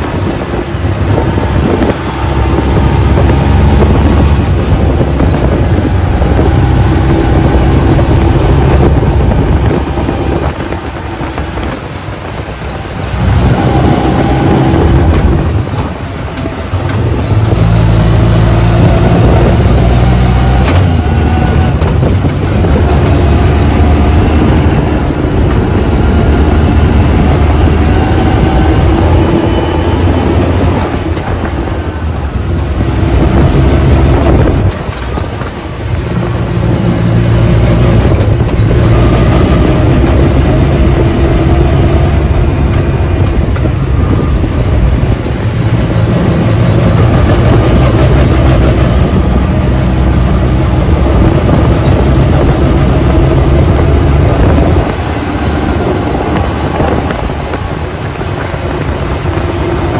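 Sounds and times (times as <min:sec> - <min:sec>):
off-road vehicle engine under load: 0:00.0 - 0:59.9
rumble and rush from dirt trail: 0:00.0 - 0:59.9.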